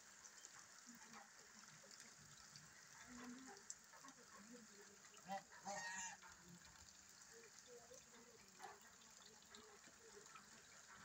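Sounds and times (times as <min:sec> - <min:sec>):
faint rain on puddles: 0:00.0 - 0:11.0.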